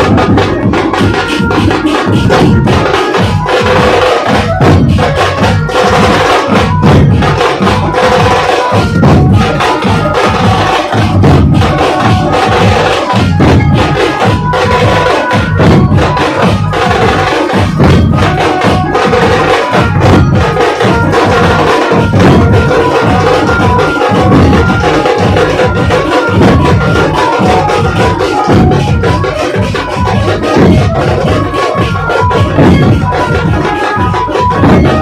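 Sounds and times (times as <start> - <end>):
dhol drums beating: 0.0 - 35.0
held pitched notes: 0.0 - 35.0.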